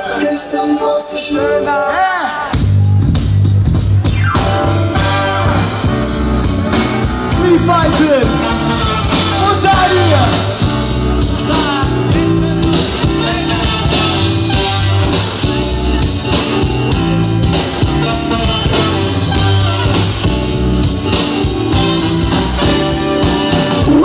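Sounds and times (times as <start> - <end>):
band with horn section playing: 0.0 - 24.0
heavy bass line: 2.6 - 24.0.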